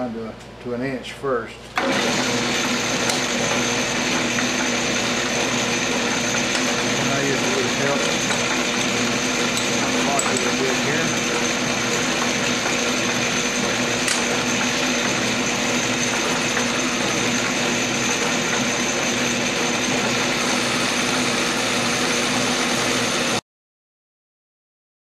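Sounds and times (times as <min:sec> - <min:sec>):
metal lathe running: 0:01.8 - 0:23.4.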